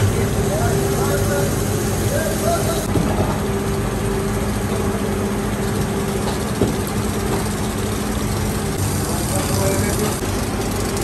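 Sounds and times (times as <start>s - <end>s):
machine hum and drone: 0.0s - 11.0s.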